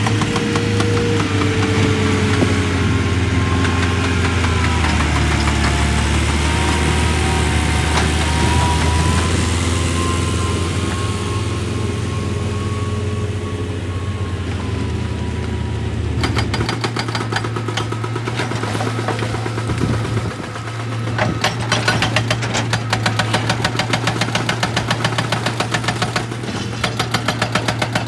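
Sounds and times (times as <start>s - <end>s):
excavator diesel engine droning: 0.0s - 28.0s.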